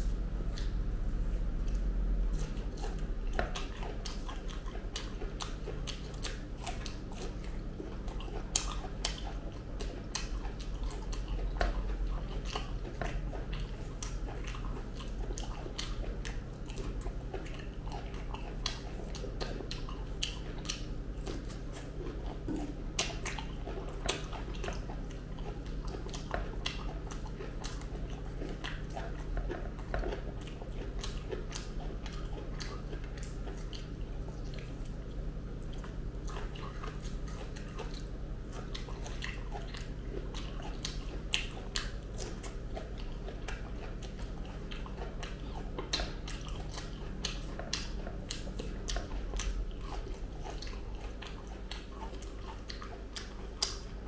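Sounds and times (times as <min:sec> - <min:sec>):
steady low hum: 0:00.0 - 0:54.0
wet chewing and mouth clicks: 0:00.0 - 0:54.0.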